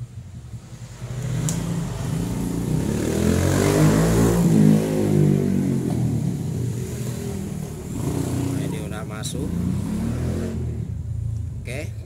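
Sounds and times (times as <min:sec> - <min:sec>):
vehicle engine passing by: 0:00.6 - 0:11.0.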